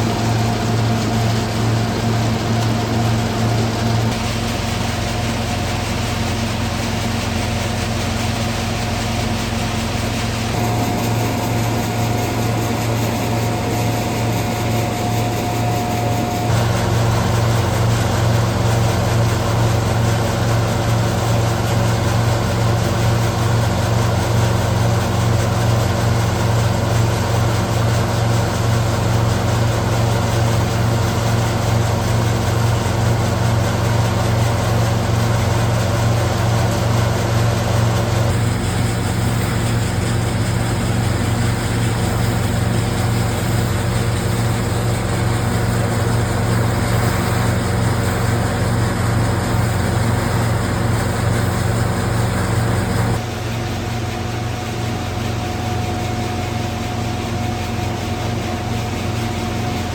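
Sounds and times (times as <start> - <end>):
threshing machine droning: 0.0 - 59.9.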